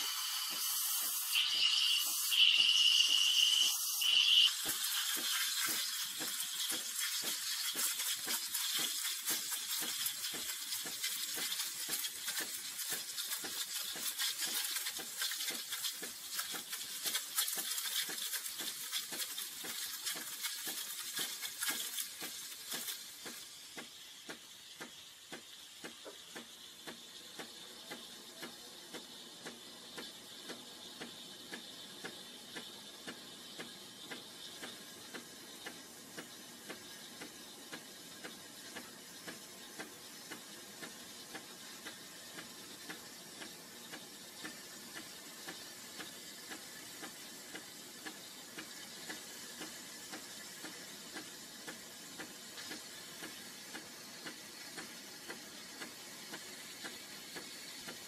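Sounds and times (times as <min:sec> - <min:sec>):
crackling sputter of frothing milk: 0:00.0 - 0:58.0
steam wand hissing into milk: 0:00.0 - 0:58.0.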